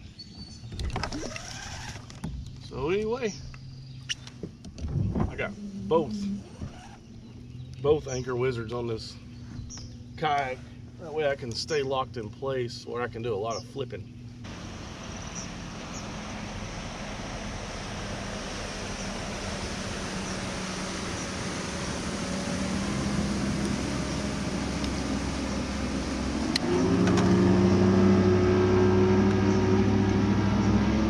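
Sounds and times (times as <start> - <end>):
outboard motor humming: 0.3 - 31.0.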